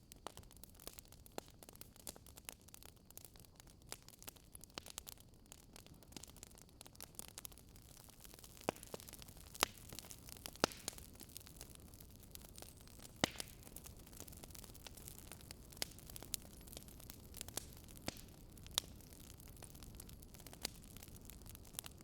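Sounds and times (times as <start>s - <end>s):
campfire wood crackling: 0.0s - 22.0s.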